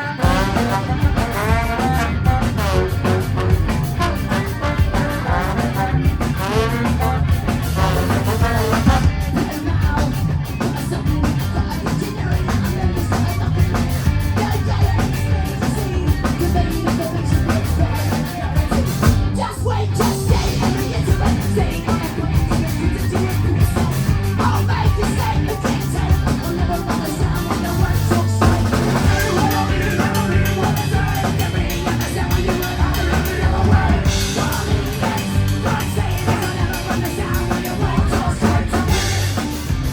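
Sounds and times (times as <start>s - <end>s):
ska band playing live: 0.0s - 39.9s.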